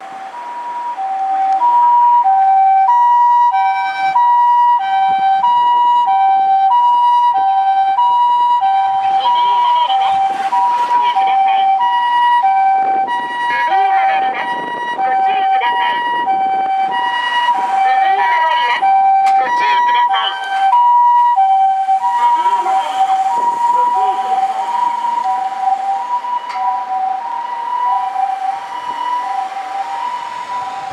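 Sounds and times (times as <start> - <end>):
ambulance two-tone siren: 0.0 - 30.9.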